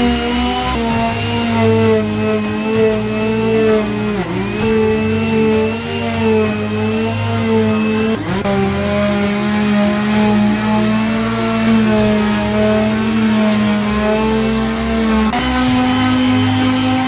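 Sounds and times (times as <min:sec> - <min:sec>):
electric sander whining: 0:00.0 - 0:17.0.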